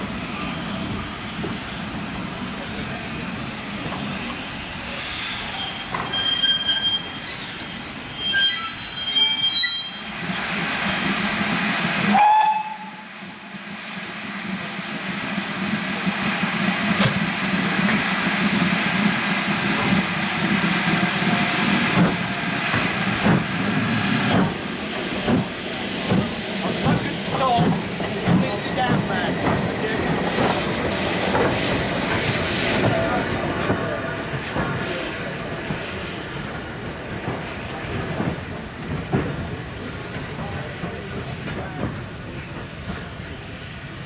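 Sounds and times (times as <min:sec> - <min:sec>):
steam locomotive running: 0:00.0 - 0:44.0.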